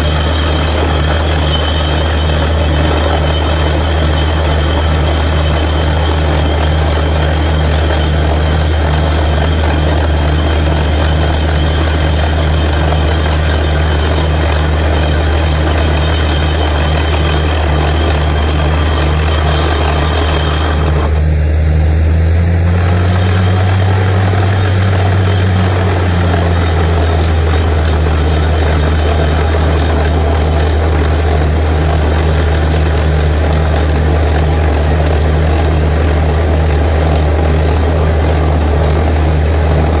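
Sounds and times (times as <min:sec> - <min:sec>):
drilling rig diesel engine droning: 0:00.0 - 0:40.0.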